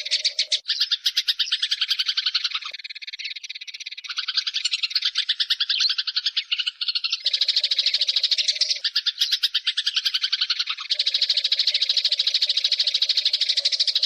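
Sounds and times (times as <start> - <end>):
sparrows chirping: 0.0 - 14.0.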